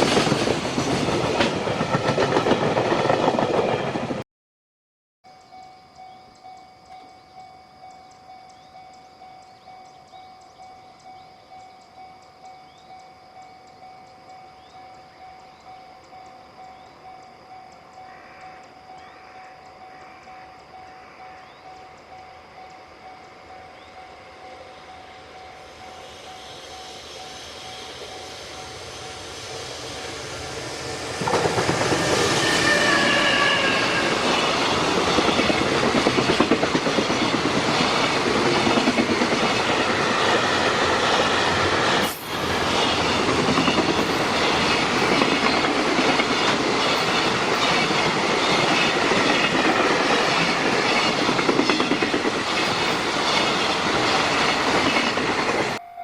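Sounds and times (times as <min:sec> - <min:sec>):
freight train passing: 0:00.0 - 0:04.2, 0:05.3 - 0:56.0.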